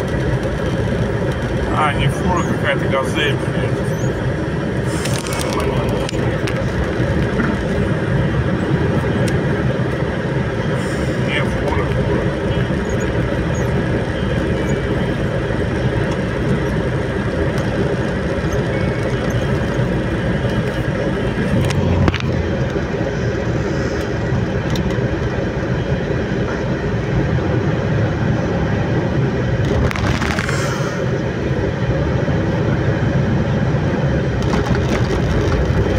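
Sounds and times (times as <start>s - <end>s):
vehicle engine and tyres droning: 0.0s - 35.9s.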